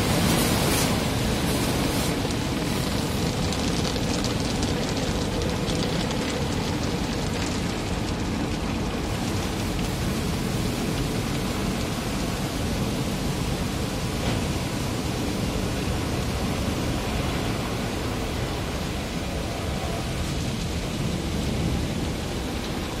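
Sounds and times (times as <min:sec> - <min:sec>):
car wash water jets spraying: 0:00.0 - 0:23.0.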